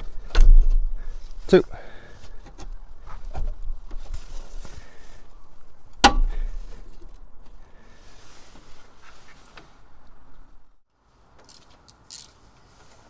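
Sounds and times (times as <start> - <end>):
hands rustling parts: 0.0 - 10.8.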